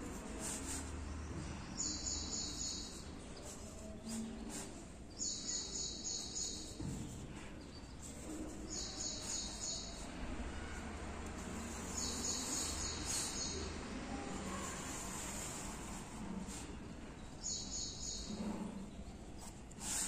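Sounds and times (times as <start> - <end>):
pencil scratching on paper: 0.0 - 1.2, 1.8 - 20.0.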